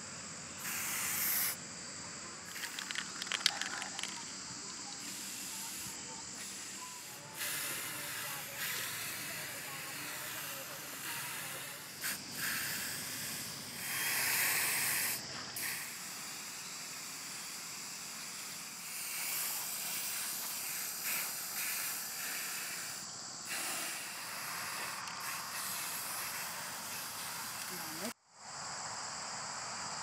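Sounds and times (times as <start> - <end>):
spray can hissing: 0.6 - 1.6, 2.5 - 28.2.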